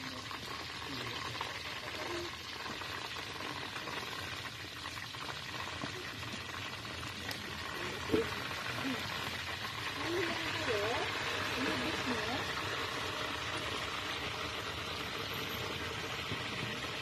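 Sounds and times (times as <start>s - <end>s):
faint crackles: 0.0s - 17.0s
hot oil sizzling: 0.0s - 17.0s.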